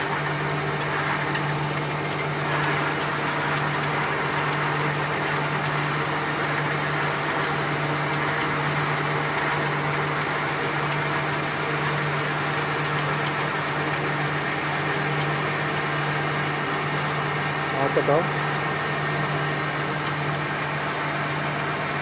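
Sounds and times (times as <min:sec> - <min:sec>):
shop machine humming and whirring: 0:00.0 - 0:22.0.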